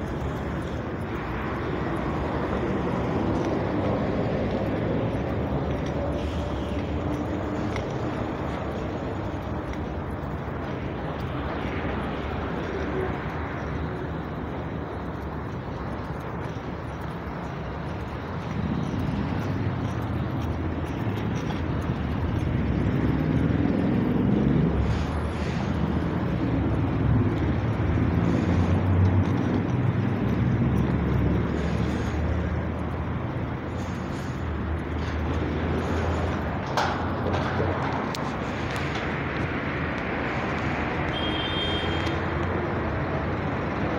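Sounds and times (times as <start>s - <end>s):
metro train rumbling: 0.0s - 15.1s, 17.3s - 43.9s.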